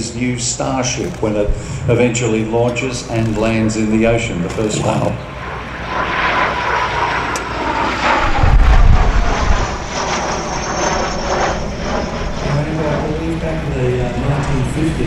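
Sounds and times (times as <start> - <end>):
jet aircraft flying overhead: 0.0 - 15.0.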